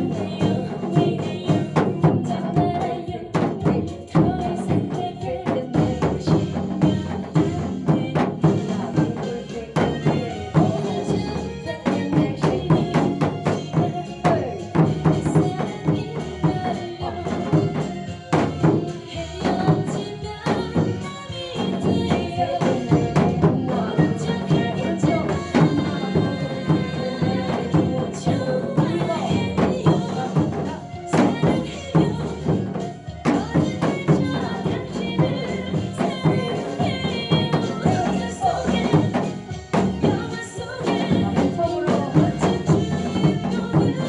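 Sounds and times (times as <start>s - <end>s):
hourglass drum strokes: 0.0s - 44.0s
trot song backing track: 0.0s - 44.0s.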